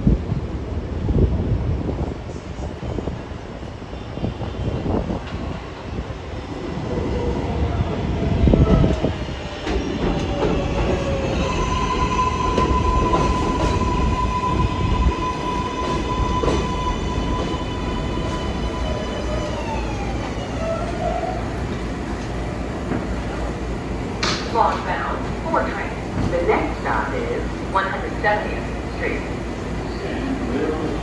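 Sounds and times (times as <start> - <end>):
subway train rumble and clatter: 0.0 - 31.0.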